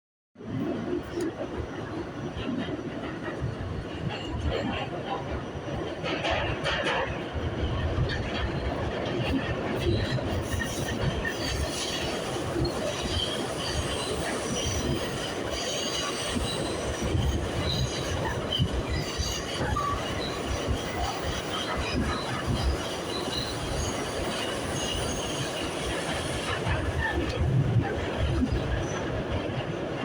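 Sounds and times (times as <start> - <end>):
subway train rumbling: 0.4 - 30.0.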